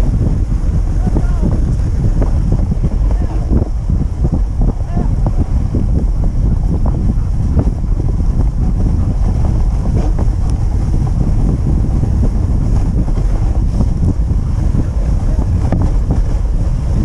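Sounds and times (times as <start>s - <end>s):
sled running over snow: 0.0s - 17.0s
wind buffeting microphone: 0.0s - 17.0s.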